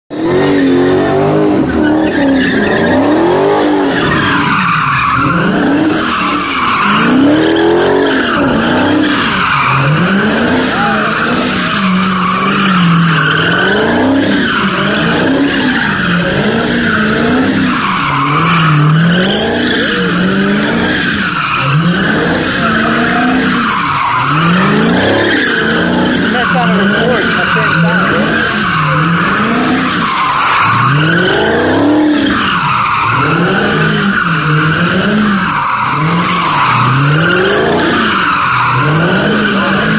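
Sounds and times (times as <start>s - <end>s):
car engine revving: 0.1s - 39.9s
tyres squealing and skidding: 0.1s - 39.9s.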